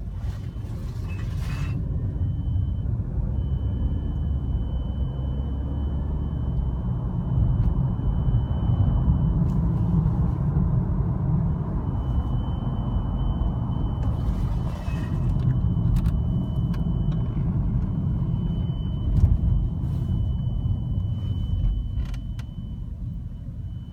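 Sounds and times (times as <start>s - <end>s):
low engine and road rumble: 0.0s - 23.9s
steady high-pitched beeping tone: 0.2s - 10.0s, 11.4s - 23.9s.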